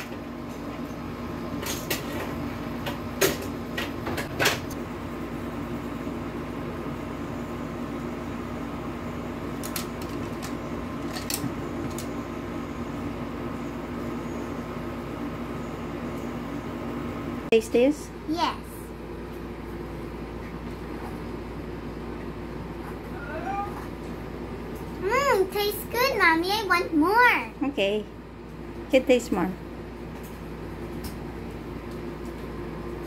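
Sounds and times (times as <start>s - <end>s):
appliance humming: 0.0s - 33.0s.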